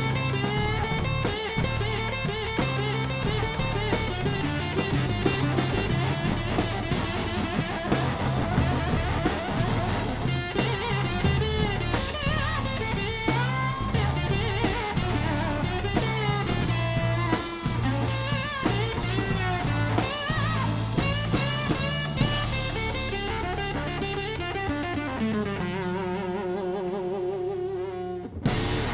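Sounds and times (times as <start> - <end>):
bass guitar: 0.0 - 28.9
drum kit: 0.0 - 28.9
lead electric guitar: 0.0 - 28.9
rhythm electric guitar: 0.0 - 28.9.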